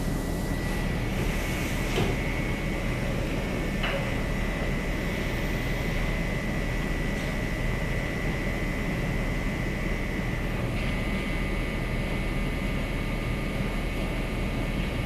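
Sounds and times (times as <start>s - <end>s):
conveyor drone and rumble: 0.0s - 15.0s.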